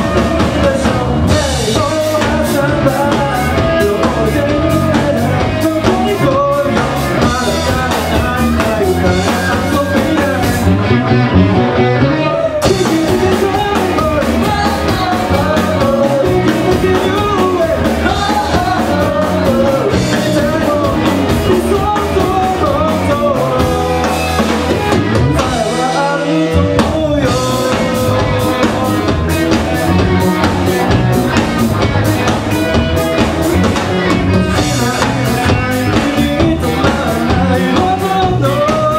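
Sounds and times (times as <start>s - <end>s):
live rock band: 0.0s - 38.9s
man singing: 0.0s - 38.9s.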